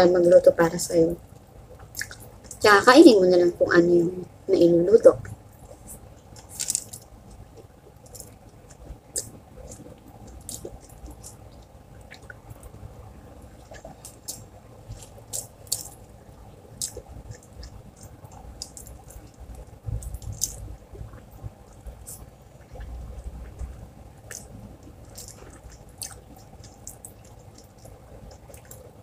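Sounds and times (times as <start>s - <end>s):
person chewing food: 1.8s - 2.6s, 5.2s - 29.0s.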